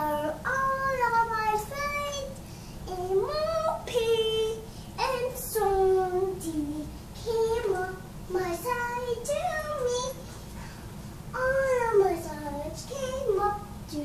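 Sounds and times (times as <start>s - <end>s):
young child singing: 0.0s - 10.3s, 11.3s - 14.0s.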